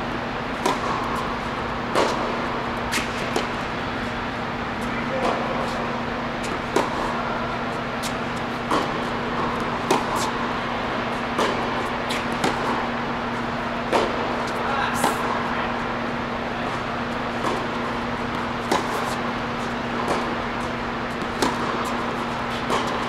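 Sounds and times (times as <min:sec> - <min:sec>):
steady low hum: 0:00.0 - 0:23.0
tennis ball bouncing: 0:00.4 - 0:03.8, 0:05.2 - 0:23.0
racquet hitting tennis ball: 0:00.4 - 0:04.3, 0:05.1 - 0:23.0.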